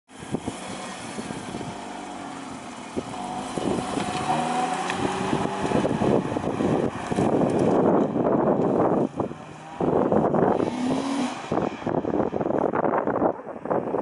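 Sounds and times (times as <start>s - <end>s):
car engine idling and revving: 0.1s - 14.0s.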